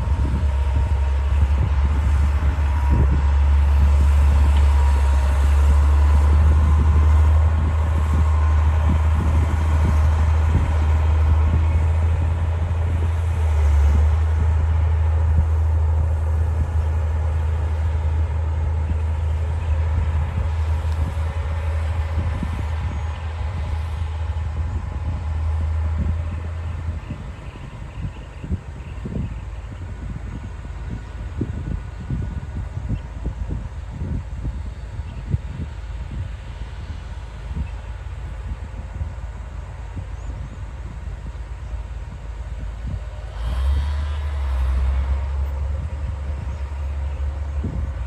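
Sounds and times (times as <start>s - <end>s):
bulldozer diesel engine droning: 0.0s - 48.0s.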